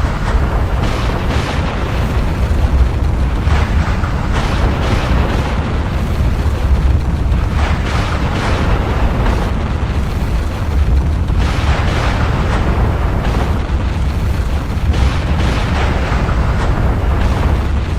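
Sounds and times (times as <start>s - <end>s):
volcanic eruption rumble: 0.0s - 17.9s.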